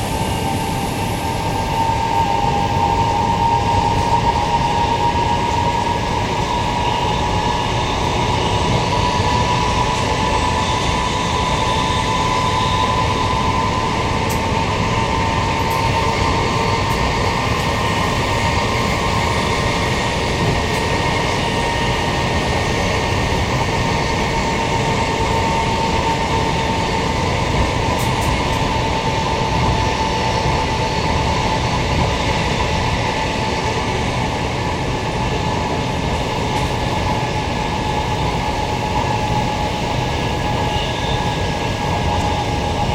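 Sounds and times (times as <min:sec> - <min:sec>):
train high whine: 0:00.0 - 0:42.9.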